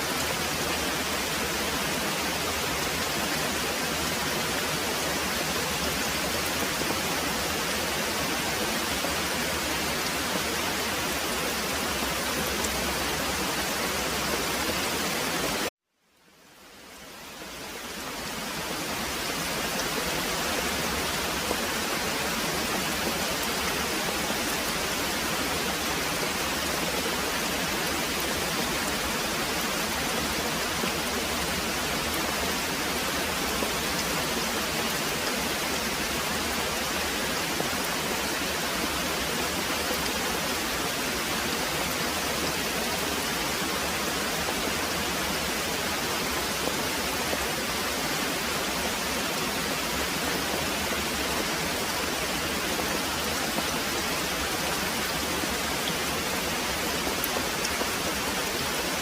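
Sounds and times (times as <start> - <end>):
heavy rain pouring: 0.0 - 15.7, 16.5 - 59.0.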